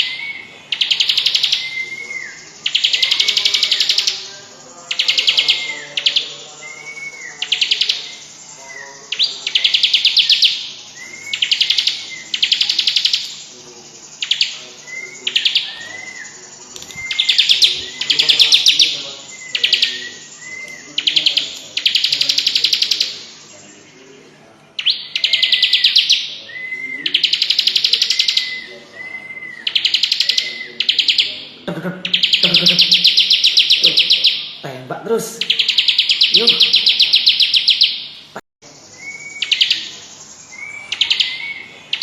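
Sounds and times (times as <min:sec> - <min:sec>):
bird whistled notes: 0:00.0 - 0:24.2, 0:24.8 - 0:34.6, 0:35.4 - 0:38.0, 0:38.7 - 0:42.0.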